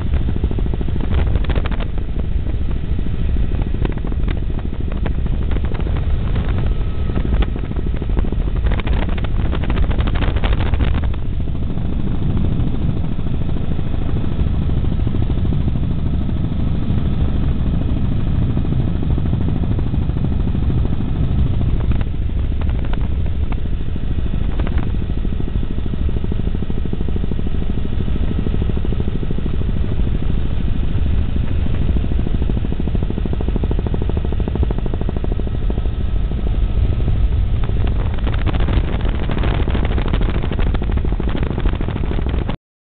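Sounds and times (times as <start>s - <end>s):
faint steady whine: 0.0s - 42.6s
helicopter engine and rotor: 0.0s - 42.6s.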